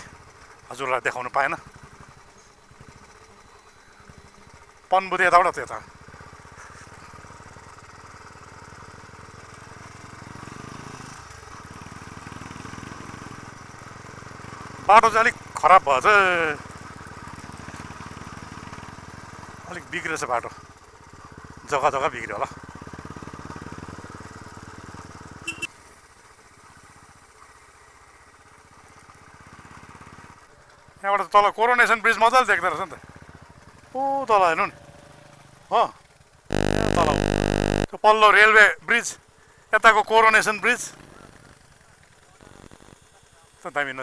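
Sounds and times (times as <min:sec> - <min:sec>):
motorcycle engine running: 0:00.0 - 0:38.0, 0:40.4 - 0:43.6.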